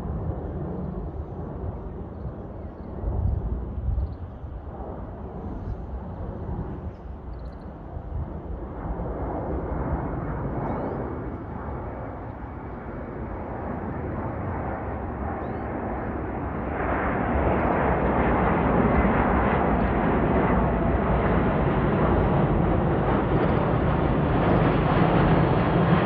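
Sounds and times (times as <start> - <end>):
jet aircraft passing: 0.0 - 26.0.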